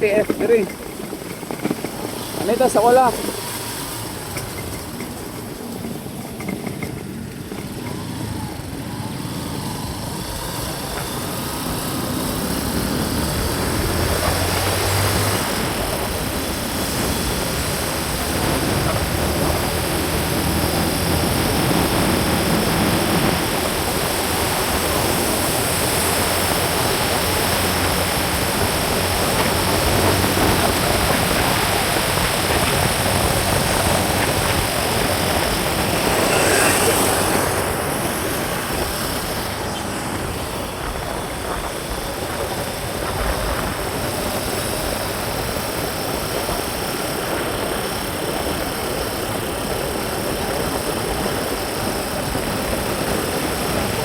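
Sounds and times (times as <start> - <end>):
road noise: 0.0 - 54.0
vehicle engine: 0.0 - 54.0
wind noise: 0.0 - 54.0.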